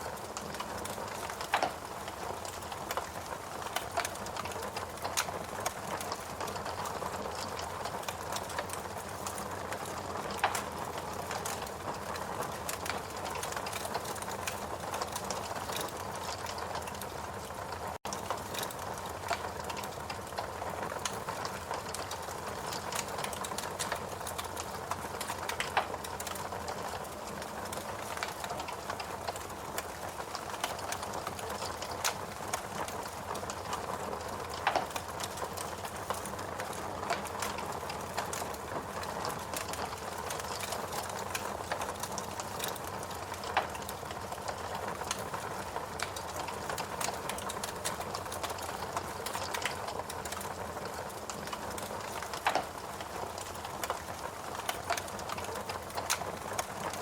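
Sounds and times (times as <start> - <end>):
fire popping: 0.0 - 57.0
fireplace crackling: 0.0 - 57.0.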